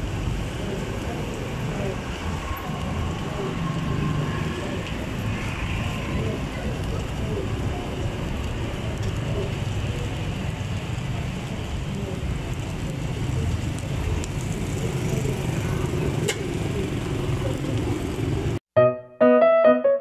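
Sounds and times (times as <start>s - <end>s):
low traffic rumble: 0.0s - 18.6s
faint voices: 0.5s - 18.1s.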